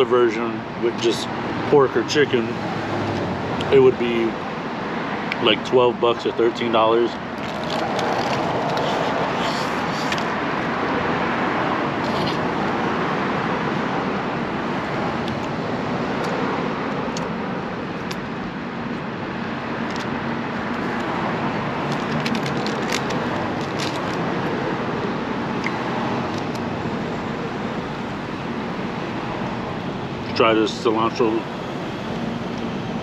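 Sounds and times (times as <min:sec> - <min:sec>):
steady rushing background noise: 0:00.2 - 0:33.0.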